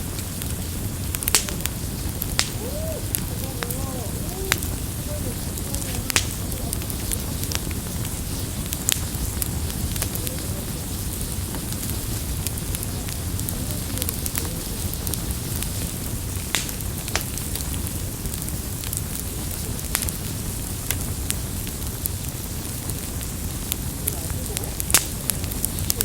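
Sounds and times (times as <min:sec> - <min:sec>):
campfire flames crackling and popping: 0:00.0 - 0:26.0.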